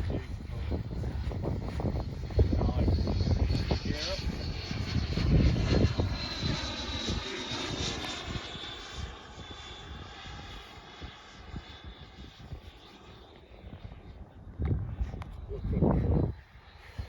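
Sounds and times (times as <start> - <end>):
high whine of electric ducted fan: 0.0 - 17.0
wind rumble on microphone: 0.0 - 17.0.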